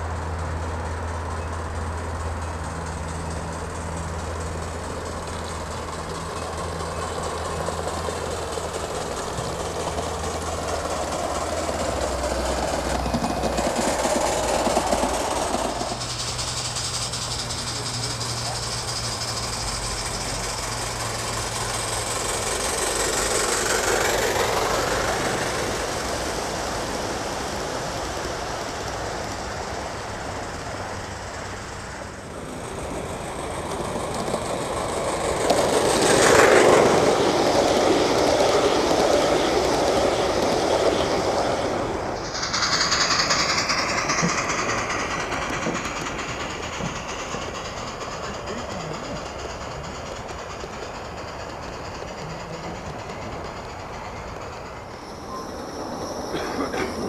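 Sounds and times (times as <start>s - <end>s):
model train wheels clacking on rails: 0.0s - 57.0s.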